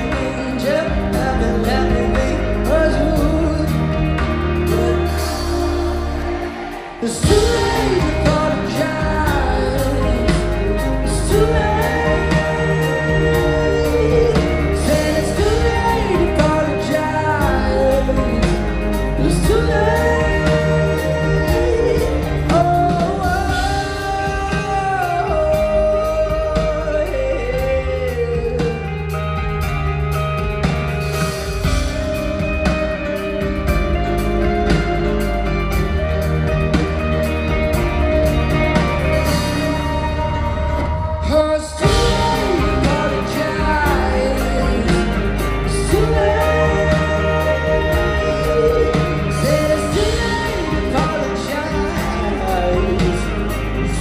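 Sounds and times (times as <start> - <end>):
lead vocal singing: 0.0 - 54.0
live pop-rock band: 0.0 - 54.0.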